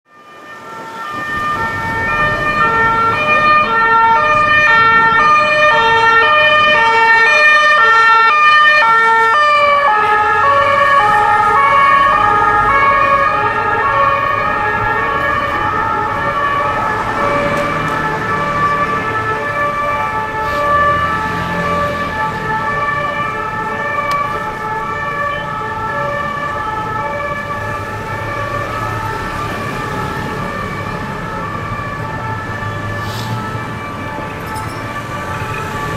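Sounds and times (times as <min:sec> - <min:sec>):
police two-tone siren: 0:00.0 - 0:35.9
traffic rumble: 0:00.3 - 0:35.9.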